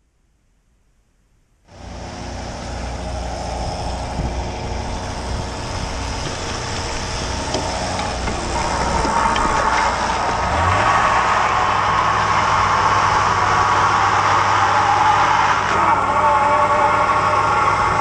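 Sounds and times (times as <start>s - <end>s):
boat engine and hydraulic block: 1.7s - 18.0s
water rushing along hull: 1.7s - 18.0s.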